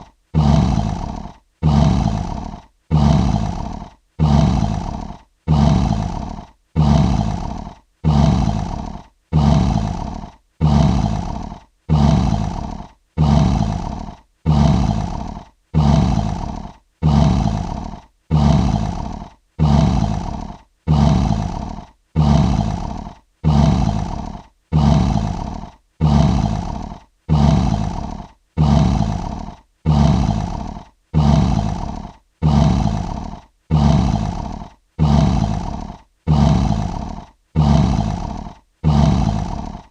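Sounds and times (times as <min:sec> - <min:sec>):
lion roar: 0:00.0 - 0:39.9.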